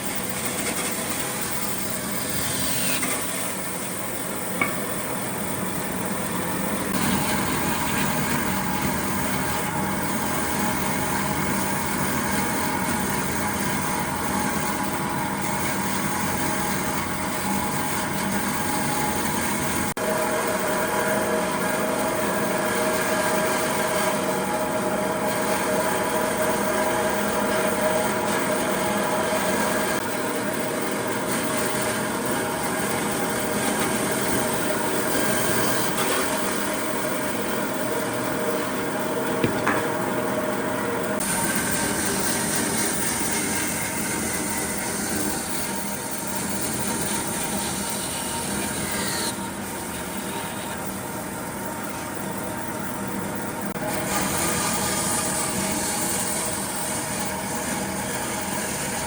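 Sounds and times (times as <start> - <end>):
power tool motor whine: 0.1 - 49.5.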